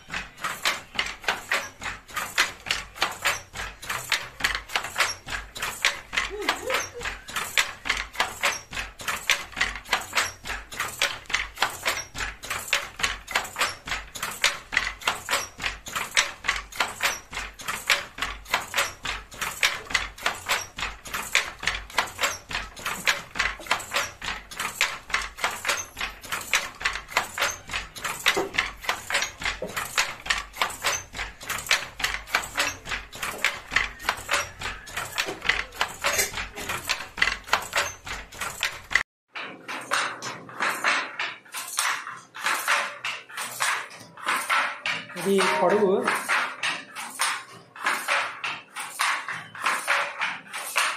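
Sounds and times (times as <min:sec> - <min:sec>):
handloom clacking: 0:00.0 - 0:50.9.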